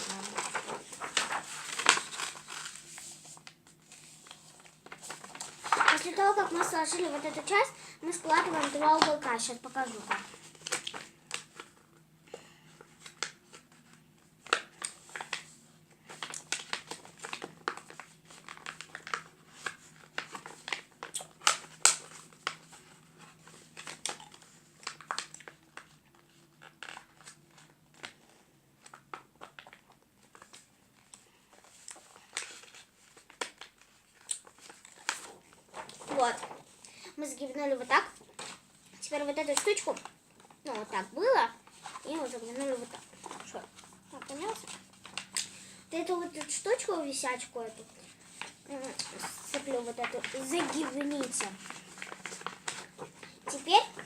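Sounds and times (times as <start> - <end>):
paper crinkling and rustling: 0.0 - 54.0.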